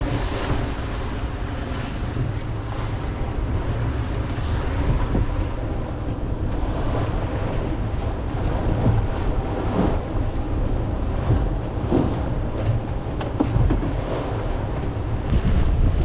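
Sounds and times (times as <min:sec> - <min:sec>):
waves washing against hull: 0:00.0 - 0:16.0
wind buffeting microphone: 0:00.0 - 0:16.0.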